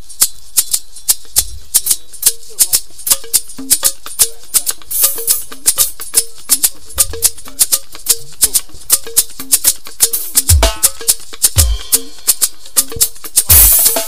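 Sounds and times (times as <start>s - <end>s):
shaker rhythm: 0.0s - 14.0s
repeating short notes: 1.8s - 14.0s.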